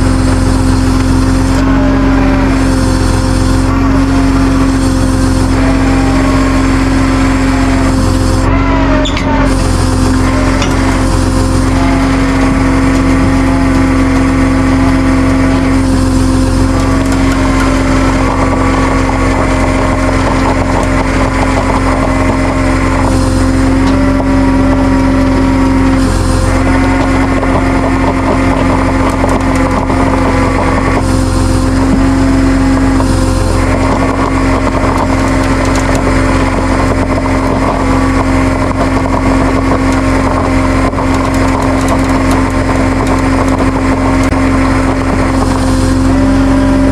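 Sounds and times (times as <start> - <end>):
tow truck engine running: 0.0 - 46.9.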